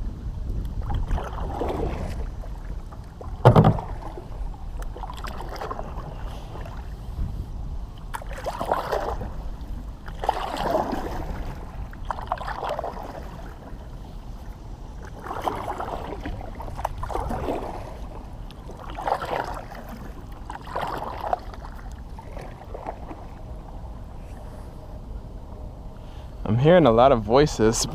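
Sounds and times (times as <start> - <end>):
paddle splashing through water: 0.8 - 7.1, 7.9 - 24.4.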